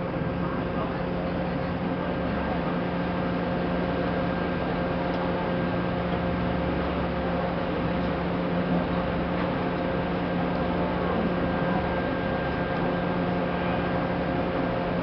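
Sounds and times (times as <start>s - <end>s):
boat engines droning: 0.0s - 15.0s.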